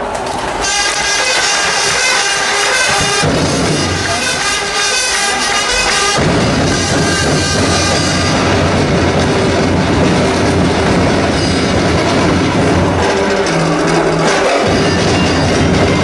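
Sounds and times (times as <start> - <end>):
dance music: 0.6 - 16.0
fast drumming: 0.6 - 16.0.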